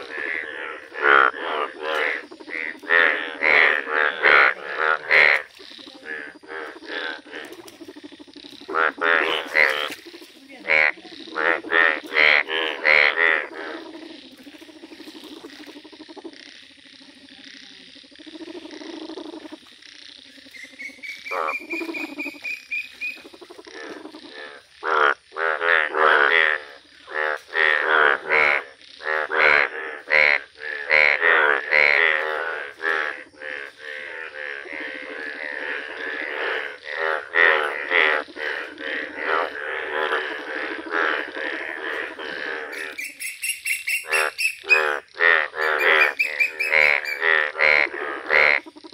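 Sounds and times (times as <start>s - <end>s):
bullfrogs croaking: 0.0s - 48.9s.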